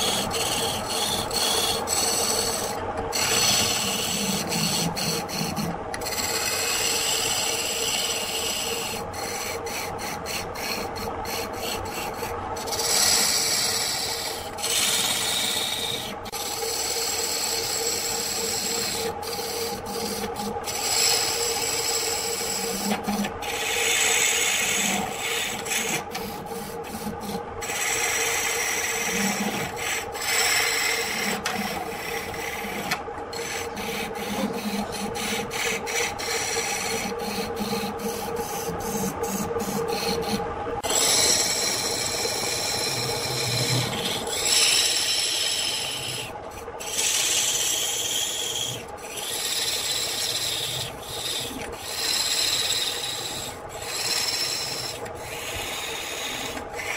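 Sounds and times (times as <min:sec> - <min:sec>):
electric motor hum: 0:00.0 - 0:56.9
lathe tool scraping wood: 0:00.0 - 0:56.9.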